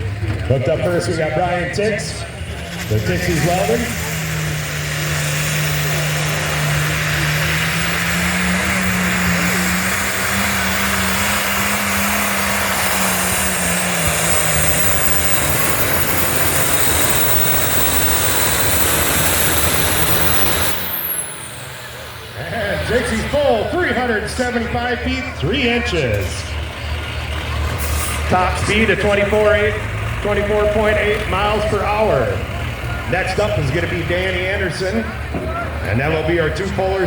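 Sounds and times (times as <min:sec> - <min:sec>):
tractor engine under heavy load: 0:00.0 - 0:37.0.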